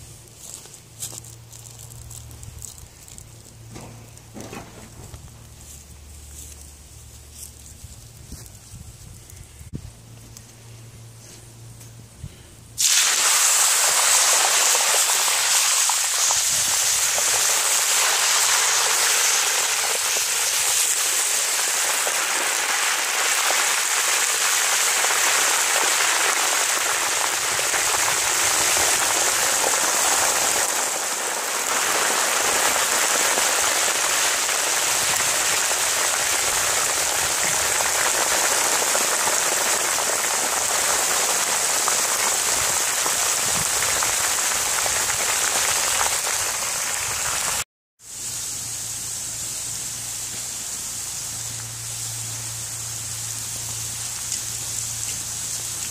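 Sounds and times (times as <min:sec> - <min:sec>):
potatoes deep-frying in oil: 0:00.0 - 0:09.3, 0:12.8 - 0:55.9.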